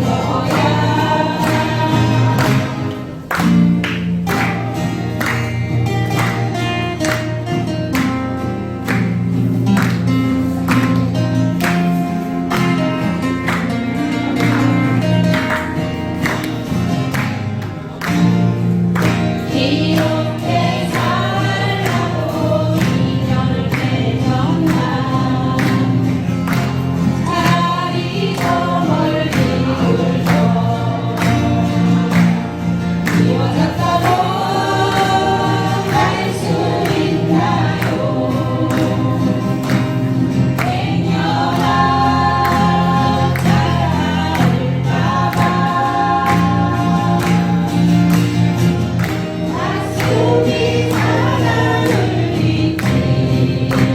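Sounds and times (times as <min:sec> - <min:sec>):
group of voices singing: 0:00.0 - 0:07.3, 0:09.0 - 0:53.9
acoustic guitars strumming: 0:00.0 - 0:53.9.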